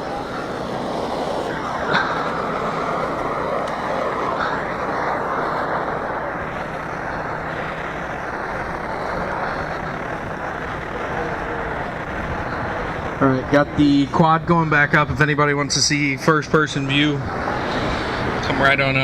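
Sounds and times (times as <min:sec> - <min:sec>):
model aircraft engine drone: 0:00.0 - 0:19.0
outdoor noise: 0:00.0 - 0:19.0.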